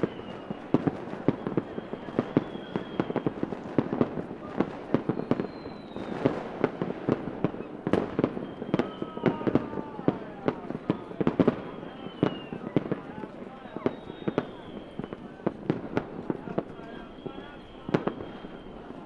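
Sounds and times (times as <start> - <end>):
fireworks bangs and pops: 0.0 - 19.0
whistling fireworks: 0.0 - 19.0.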